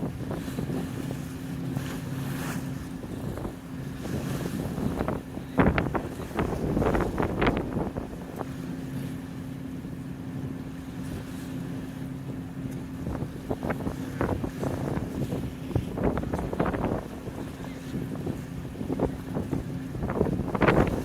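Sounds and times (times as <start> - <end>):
wind buffeting microphone: 0.0 - 9.2, 10.2 - 21.0
boat engine humming: 0.0 - 21.0.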